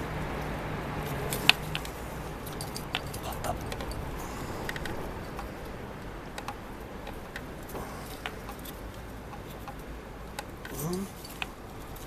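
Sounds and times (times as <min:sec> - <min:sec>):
steady low background hum: 0:00.0 - 0:12.0
hand tools clicking and tapping: 0:01.0 - 0:12.0.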